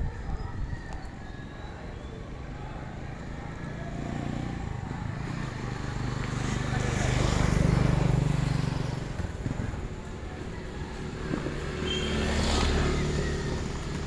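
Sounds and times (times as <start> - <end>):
motor vehicle passing: 1.7 - 14.0.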